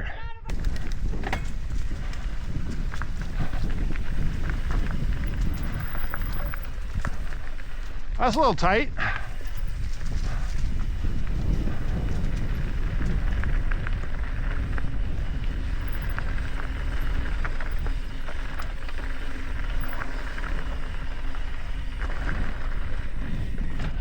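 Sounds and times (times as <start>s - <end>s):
wind on microphone: 0.0s - 8.2s, 8.9s - 24.0s
bike clicks and rattles: 0.5s - 24.0s
tyres rumbling on dirt trail: 0.5s - 24.0s.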